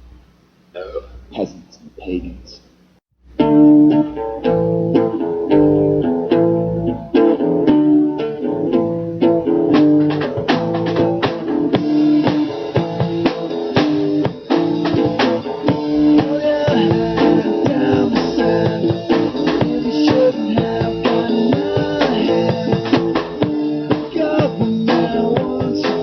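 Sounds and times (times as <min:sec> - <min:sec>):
rock band playing: 0:03.4 - 0:26.0.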